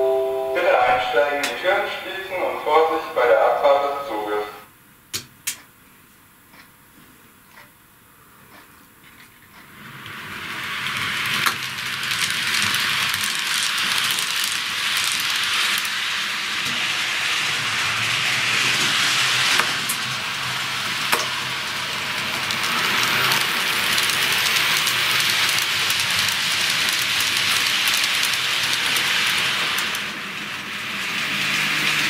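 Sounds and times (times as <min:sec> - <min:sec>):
model train wheels on rails: 0:00.0 - 0:04.5, 0:08.5 - 0:32.0.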